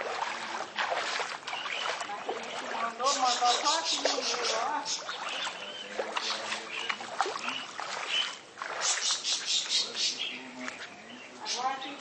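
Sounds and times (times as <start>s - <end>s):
people wading through floodwater: 0.0s - 12.0s.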